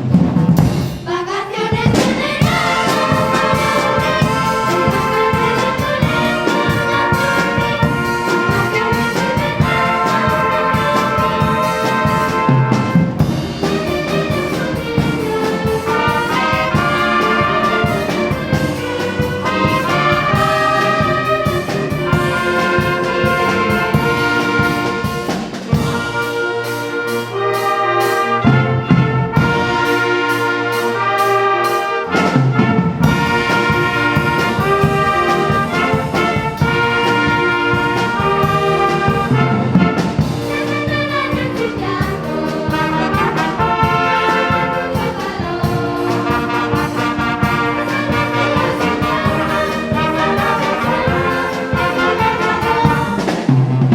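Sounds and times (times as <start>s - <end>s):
brass ensemble playing: 0.0s - 53.9s.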